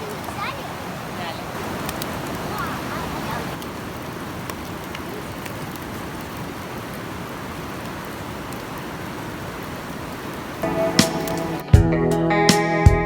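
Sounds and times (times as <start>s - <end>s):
campfire hissing and crackling: 0.0s - 11.7s.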